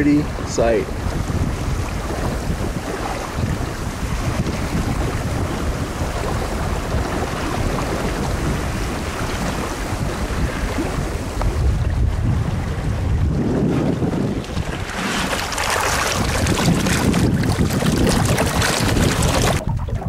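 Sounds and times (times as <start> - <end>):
choppy water slapping hull: 0.0 - 20.0
wind buffeting microphone: 0.0 - 20.0.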